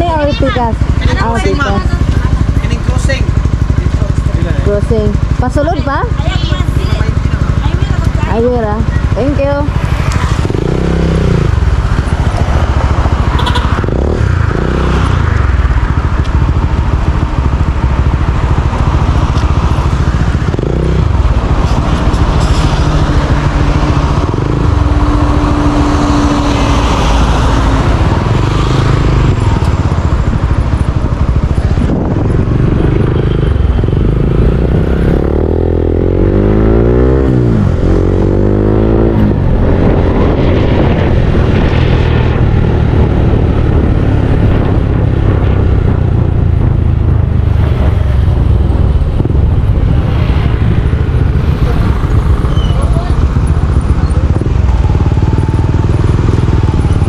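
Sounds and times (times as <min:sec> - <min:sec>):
motorcycle engine running: 0:00.0 - 0:57.0
wind rumble on microphone: 0:04.7 - 0:57.0.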